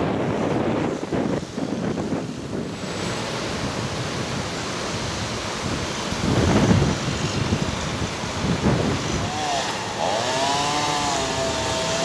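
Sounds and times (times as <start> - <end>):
storm wind gusting on microphone: 0.0 - 12.0.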